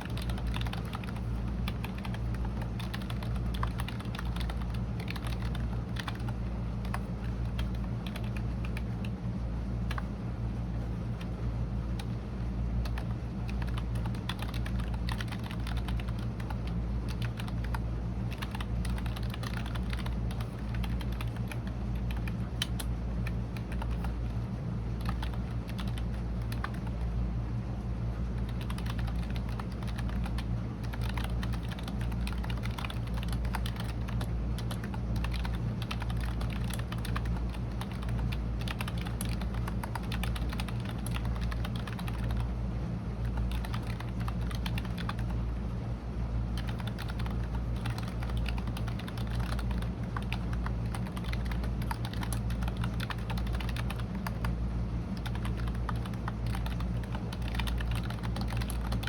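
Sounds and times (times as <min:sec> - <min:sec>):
computer keyboard typing: 0:00.0 - 0:09.2, 0:09.8 - 0:10.1, 0:12.8 - 0:27.1, 0:28.4 - 0:42.6, 0:43.2 - 0:45.4, 0:46.5 - 0:59.0
steady low hum: 0:00.0 - 0:59.0.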